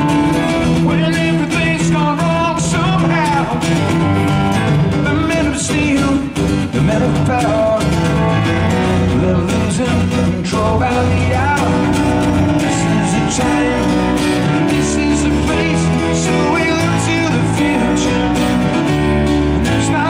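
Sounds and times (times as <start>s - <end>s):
live rock band playing: 0.0s - 20.0s
man singing: 0.0s - 20.0s
strummed acoustic guitar: 0.0s - 20.0s.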